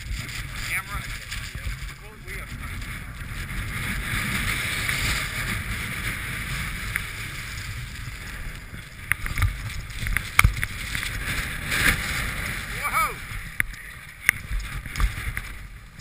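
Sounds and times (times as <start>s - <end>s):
snowboard sliding on snow: 0.0s - 16.0s
wind on microphone: 0.0s - 16.0s.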